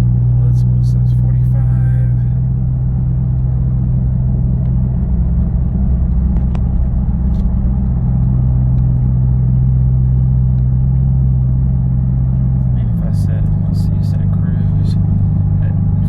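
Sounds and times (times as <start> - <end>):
car exhaust drone: 0.0 - 16.0
road noise: 0.0 - 16.0.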